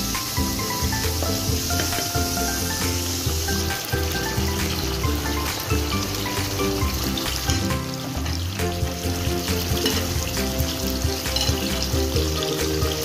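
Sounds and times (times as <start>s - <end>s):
background music: 0.0s - 13.0s
stew bubbling and sizzling: 0.0s - 13.0s.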